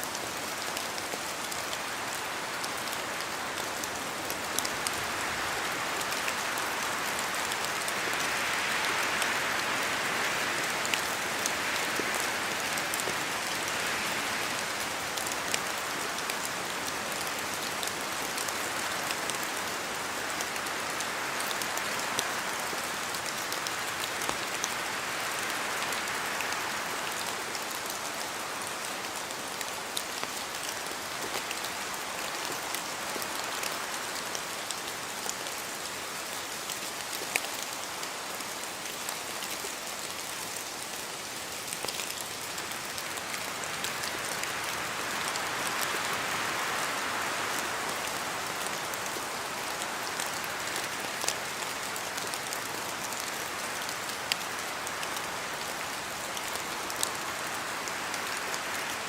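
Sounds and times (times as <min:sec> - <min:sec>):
rain dripping from branches: 0:00.0 - 0:59.0.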